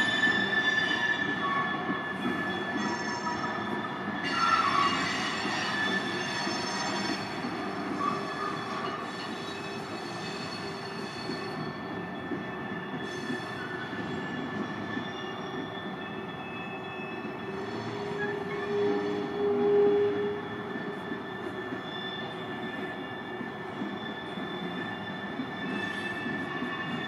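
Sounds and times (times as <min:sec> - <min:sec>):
train rumble: 0:00.0 - 0:27.0
train wheels squealing: 0:00.0 - 0:27.0.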